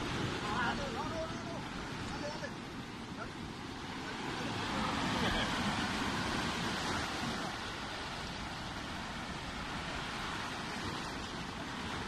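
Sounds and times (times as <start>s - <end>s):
ocean surf over rocks: 0.0s - 12.0s
wind rumbling on microphone: 0.0s - 12.0s.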